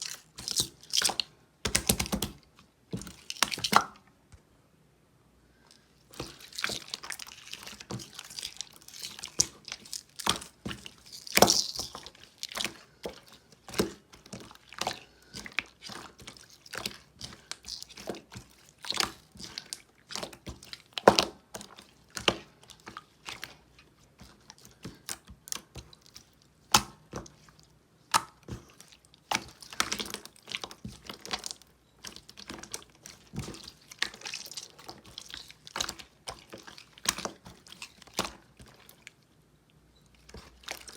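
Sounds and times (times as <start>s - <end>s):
slime squished with wet pops: 0.0s - 4.1s, 6.1s - 40.9s.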